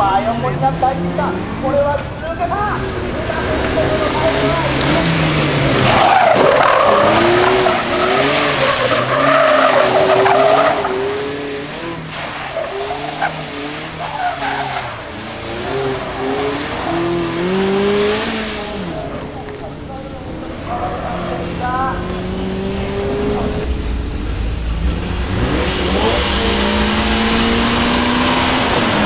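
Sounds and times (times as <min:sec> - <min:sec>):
car engine revving: 0:00.0 - 0:29.0
tyres squealing: 0:00.0 - 0:29.0.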